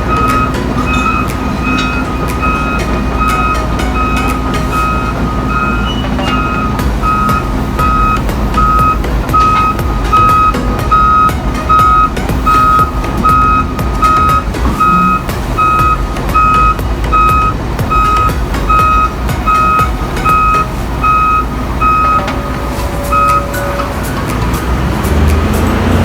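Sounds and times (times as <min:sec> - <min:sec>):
backup alarm beeping: 0:00.0 - 0:24.9
low diesel engine rumble: 0:00.0 - 0:26.0.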